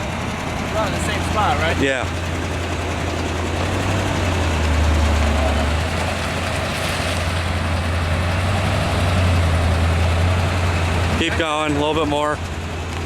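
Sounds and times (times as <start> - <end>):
truck engine running at low revs: 0.0 - 13.0.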